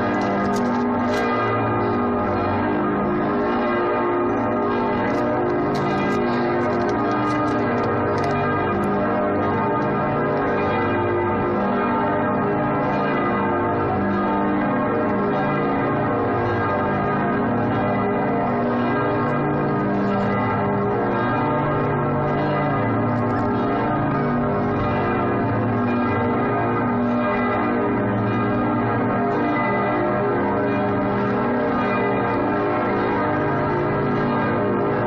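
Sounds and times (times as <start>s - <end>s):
church bells ringing: 0.0s - 35.0s.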